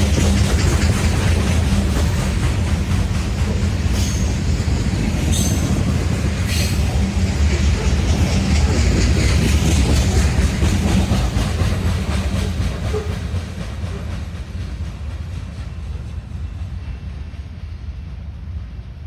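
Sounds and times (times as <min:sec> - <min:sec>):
train wheels clicking over rail joints: 0:00.0 - 0:17.5
low train rumble: 0:00.0 - 0:19.0.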